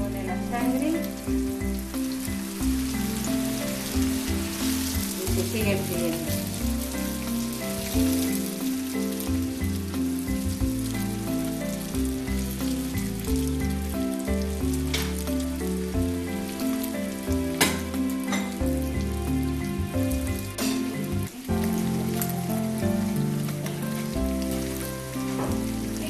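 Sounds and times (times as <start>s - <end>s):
food sizzling in a frying pan: 0.0s - 26.0s
instrumental background music: 0.0s - 26.0s.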